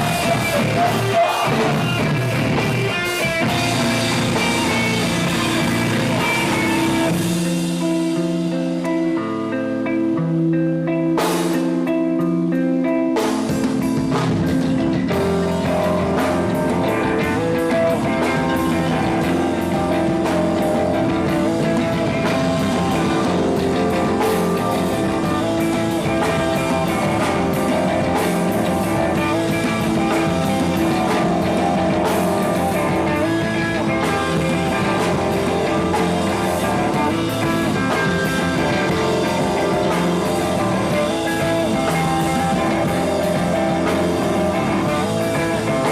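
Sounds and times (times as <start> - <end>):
rock band playing loudly: 0.0 - 45.9
guitar chords ringing: 1.8 - 45.9.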